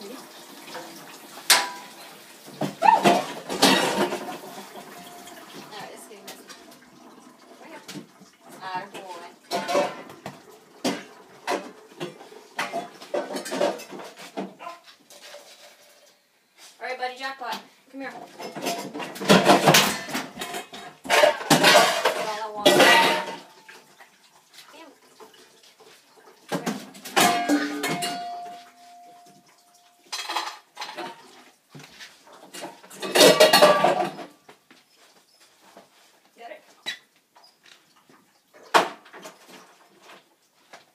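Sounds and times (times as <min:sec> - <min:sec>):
dishes clattering in a sink: 0:00.0 - 0:16.0, 0:18.1 - 0:24.2, 0:25.2 - 0:34.5, 0:36.9 - 0:40.2.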